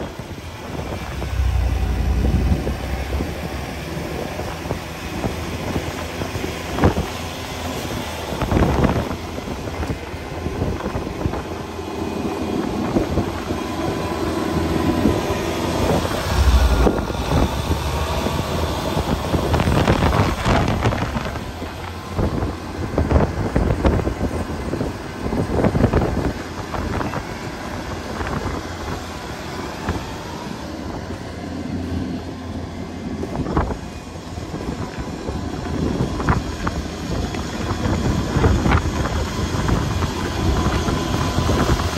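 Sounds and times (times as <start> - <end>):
wind buffeting microphone: 0.0 - 31.8, 33.0 - 41.9
engine running: 0.0 - 41.9.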